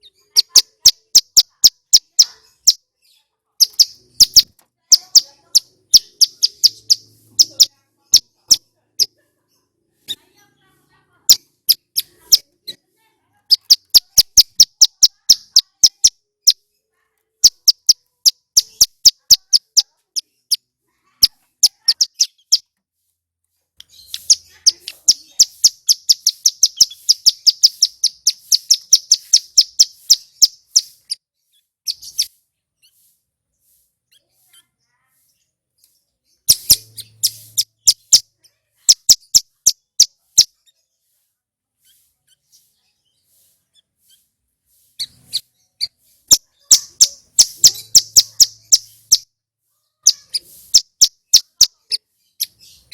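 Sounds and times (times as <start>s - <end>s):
bird chirping rapidly: 0.0s - 9.2s, 11.2s - 12.8s, 13.5s - 16.7s, 17.4s - 22.7s, 23.8s - 35.4s, 36.3s - 41.2s, 41.8s - 49.4s, 50.0s - 52.9s.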